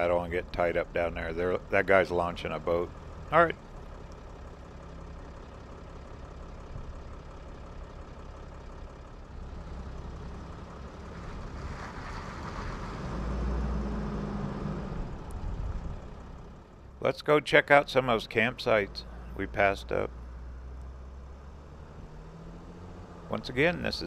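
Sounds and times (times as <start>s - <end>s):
van engine and road noise: 0.0s - 24.0s.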